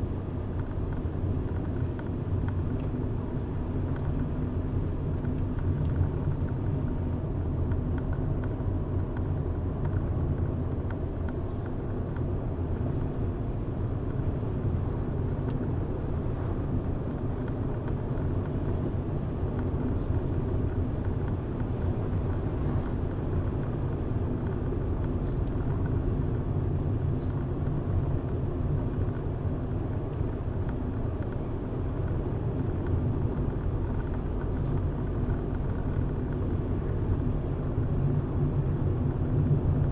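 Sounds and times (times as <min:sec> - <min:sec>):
car engine rumble: 0:00.0 - 0:39.9
tyre noise on road: 0:00.0 - 0:39.9.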